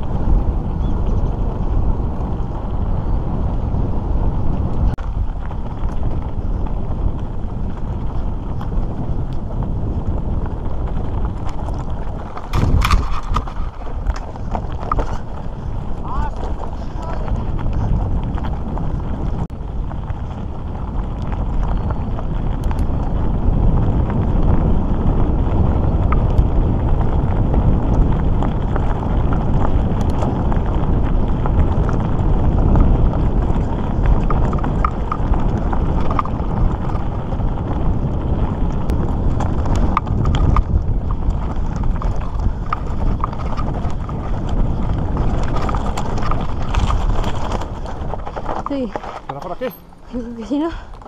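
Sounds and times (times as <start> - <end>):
stones and bike rattling: 0.0 - 51.0
tyres rumbling on gravel: 0.0 - 51.0
wind on microphone: 0.0 - 51.0.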